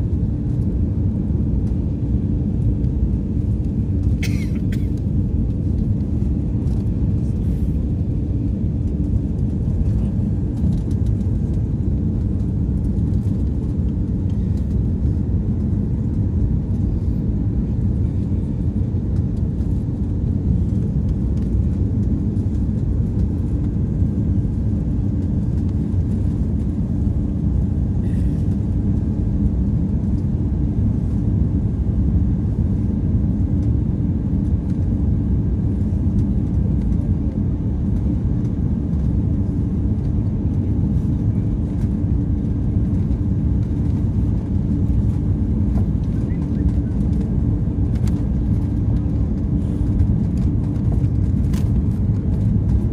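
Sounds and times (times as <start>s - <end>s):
airplane cabin rumble: 0.0s - 52.9s
faint constant hum: 0.0s - 52.9s.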